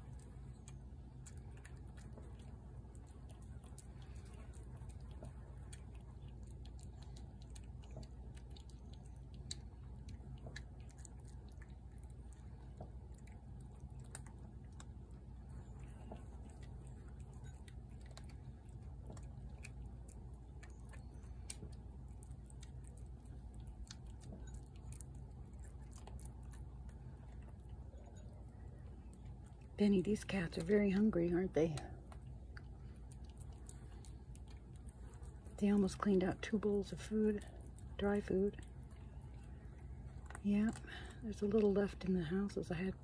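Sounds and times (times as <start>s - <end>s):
cat chewing and lapping: 0.0s - 43.0s
low background hum: 0.0s - 43.0s.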